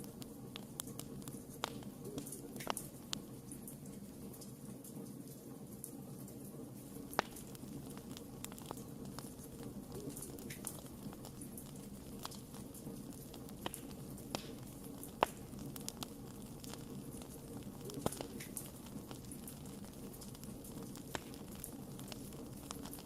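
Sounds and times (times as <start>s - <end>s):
burning wood crackling and popping: 0.0s - 23.0s
low rumble of flames: 0.0s - 23.0s.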